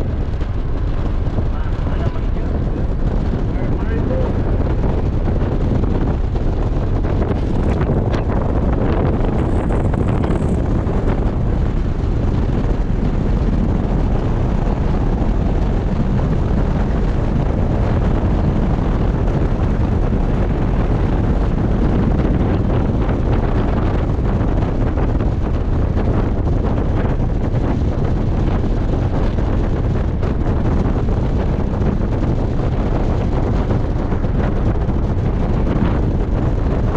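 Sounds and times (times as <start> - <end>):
low engine rumble: 0.0 - 36.9
wind buffeting microphone: 0.0 - 36.9.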